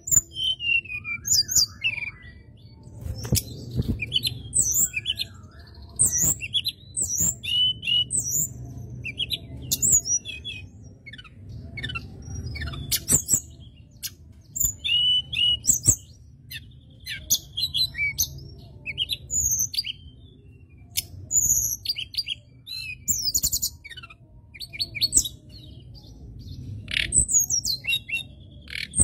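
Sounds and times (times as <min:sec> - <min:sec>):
bird chirps and calls: 0:00.0 - 0:29.0.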